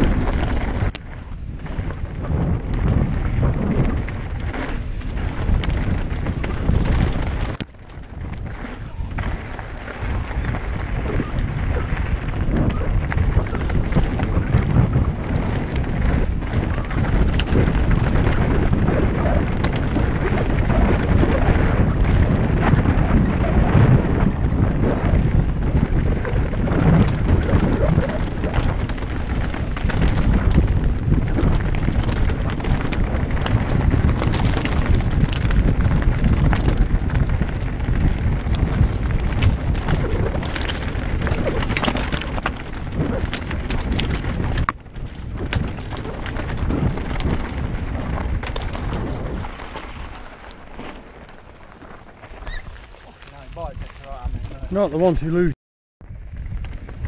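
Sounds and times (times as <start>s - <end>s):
tyres crunching over stones: 0.0s - 23.9s, 24.5s - 55.4s
bike rattling: 0.0s - 55.5s, 56.1s - 57.0s
wind on camera: 0.0s - 57.0s.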